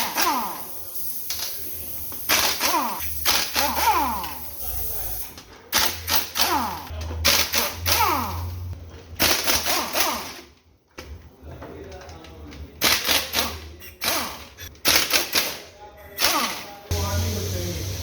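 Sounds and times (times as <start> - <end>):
air impact wrench bursts: 0.0 - 8.6, 9.2 - 10.5, 12.8 - 15.6, 16.2 - 18.0.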